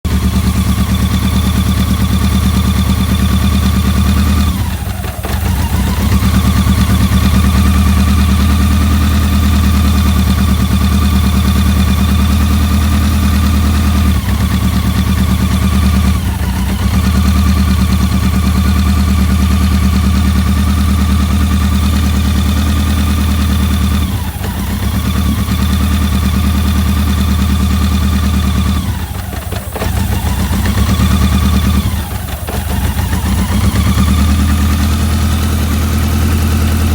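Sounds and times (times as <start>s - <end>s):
motorcycle engine idling: 0.0s - 36.9s.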